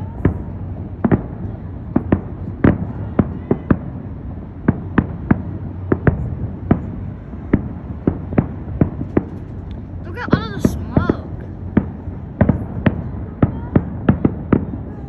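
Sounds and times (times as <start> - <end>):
fireworks bursting with sharp bangs: 0.0 - 15.0
low rumble: 0.0 - 15.0.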